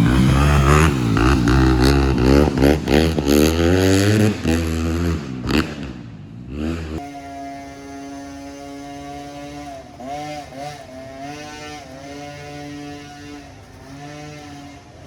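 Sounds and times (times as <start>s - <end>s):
dirt bike engine revving: 0.0s - 15.0s
steady quiet engine tone: 0.0s - 15.0s.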